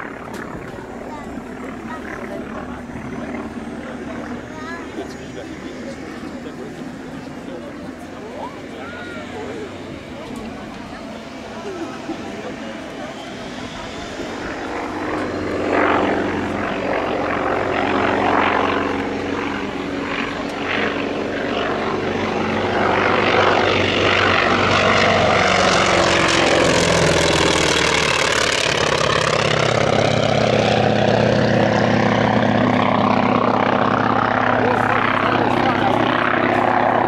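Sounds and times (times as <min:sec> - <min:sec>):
propeller plane engine droning: 0:00.0 - 0:37.0.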